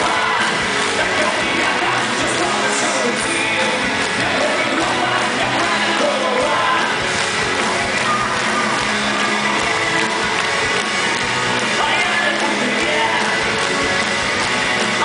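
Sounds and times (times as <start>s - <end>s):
crowd clapping along: 0.0s - 15.0s
live rock band with singing: 0.0s - 15.0s.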